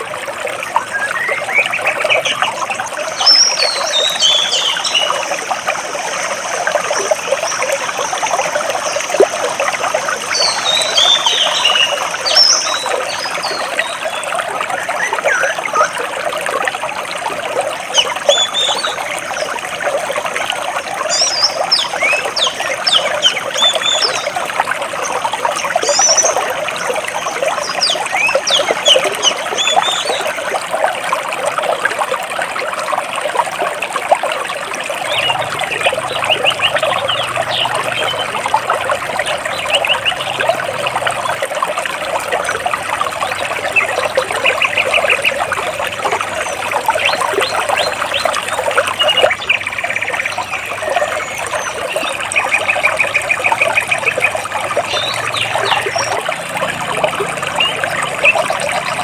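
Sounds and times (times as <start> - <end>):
stream water splashing over rocks: 0.0 - 59.0
birds chirping: 0.7 - 5.6, 6.2 - 16.0, 17.9 - 19.5, 21.1 - 30.4, 35.0 - 41.4, 43.2 - 59.0.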